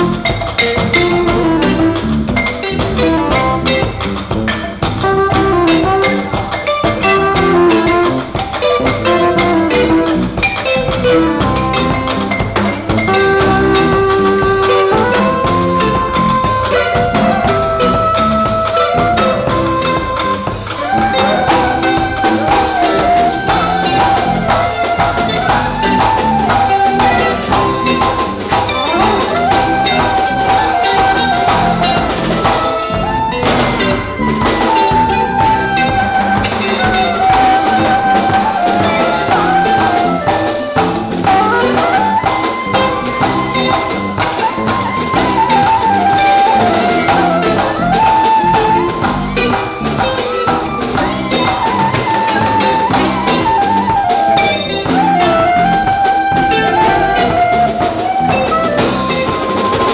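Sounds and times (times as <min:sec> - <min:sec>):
drum kit and percussion beat: 0:00.0 - 0:59.9
electric guitar: 0:00.0 - 0:59.9
sliding lead melody: 0:00.0 - 0:59.9.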